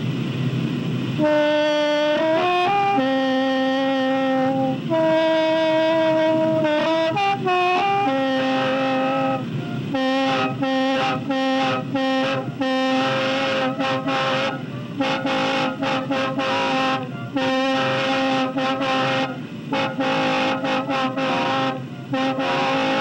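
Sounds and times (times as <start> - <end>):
mouth organ reedy chords: 1.2 - 23.0.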